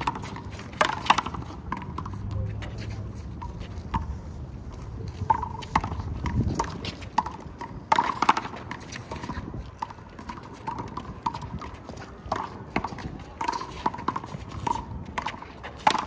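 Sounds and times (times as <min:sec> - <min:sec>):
players' feet on court: 0:00.0 - 0:16.0.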